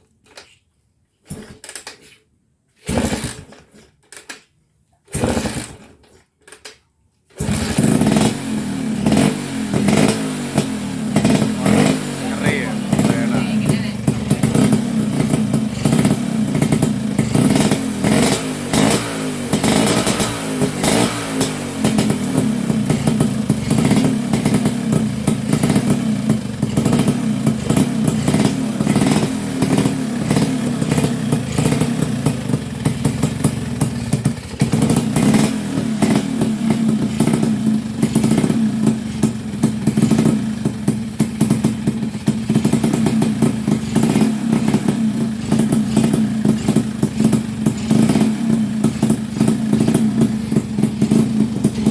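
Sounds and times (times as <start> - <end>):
scooter engine revving: 2.8 - 3.6, 5.1 - 6.0, 7.4 - 51.9.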